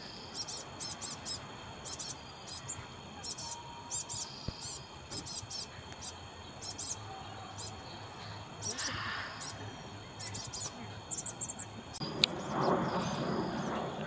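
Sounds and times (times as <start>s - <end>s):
songbird call notes: 0.0s - 13.7s
faint high background noise: 0.0s - 14.0s.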